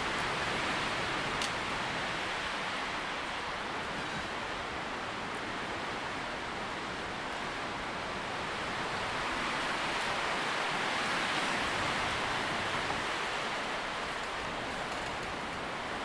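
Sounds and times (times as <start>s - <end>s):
leaves rustling in wind: 0.0s - 16.0s.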